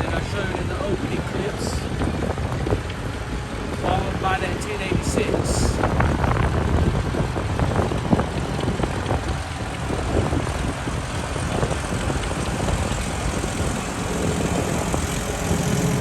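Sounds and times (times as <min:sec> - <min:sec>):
tractor engine driving past: 0:00.0 - 0:16.0.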